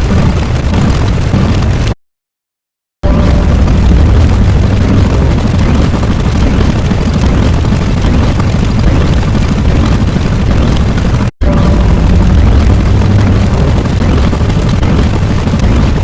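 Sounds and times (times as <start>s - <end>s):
deep rumble: 3.0s - 16.0s.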